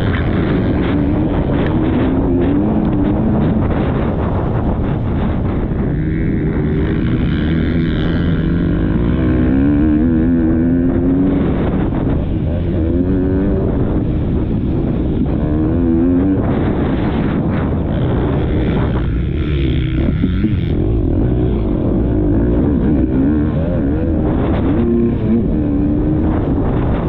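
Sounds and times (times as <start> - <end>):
motorbike engine revving: 0.0 - 27.0
wind buffeting: 0.0 - 27.0.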